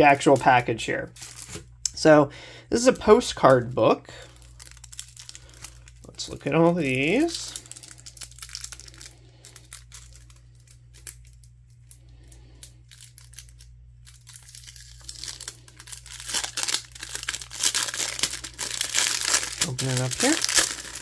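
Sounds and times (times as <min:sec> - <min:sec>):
plastic wrapping crinkling: 0:00.0 - 0:01.8, 0:02.8 - 0:21.0.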